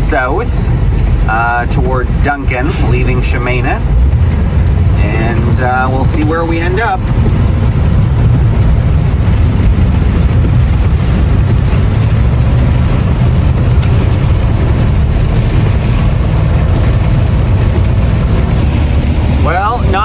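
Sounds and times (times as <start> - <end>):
tyres on wet road: 0.0 - 20.0
vehicle engine and road noise: 0.0 - 20.0.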